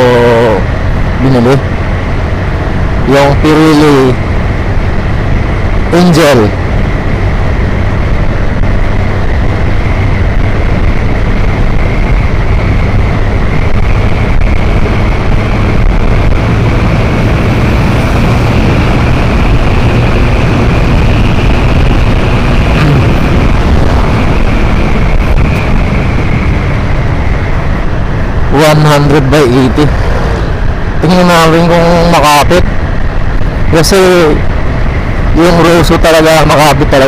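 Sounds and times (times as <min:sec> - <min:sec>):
motorcycle engine: 0:00.0 - 0:36.4
road noise: 0:00.0 - 0:37.0
wind rushing over microphone: 0:00.0 - 0:37.0.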